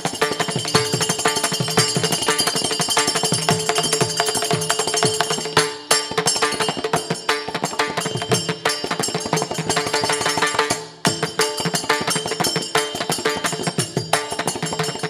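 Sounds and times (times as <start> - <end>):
drum beats: 0.0 - 15.0
jingling metal percussion: 0.0 - 15.0.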